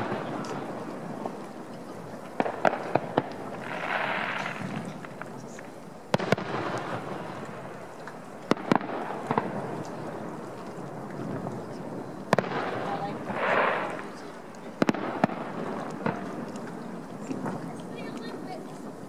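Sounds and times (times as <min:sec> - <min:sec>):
fireworks bursting with sharp bangs: 0:00.0 - 0:19.0.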